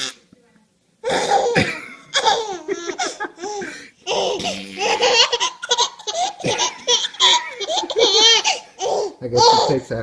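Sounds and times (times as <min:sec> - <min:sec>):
baby giggling: 0:01.0 - 0:09.9.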